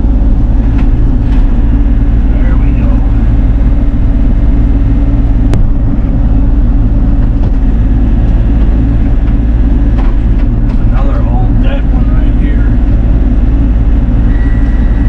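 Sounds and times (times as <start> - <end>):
diesel excavator engine running: 0.0 - 15.0.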